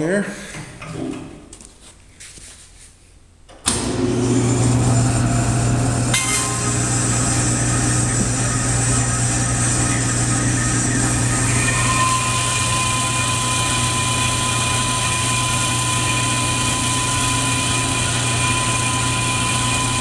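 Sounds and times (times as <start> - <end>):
bandsaw switching on: 3.6 - 20.0
bandsaw humming: 3.8 - 20.0.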